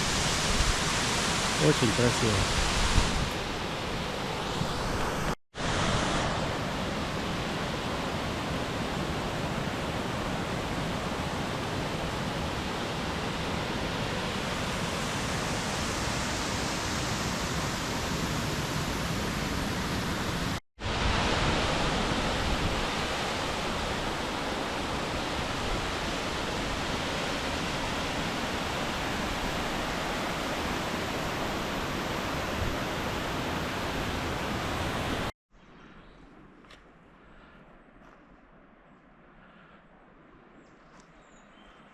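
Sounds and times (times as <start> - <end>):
stream and waterfall rushing: 0.0 - 35.3.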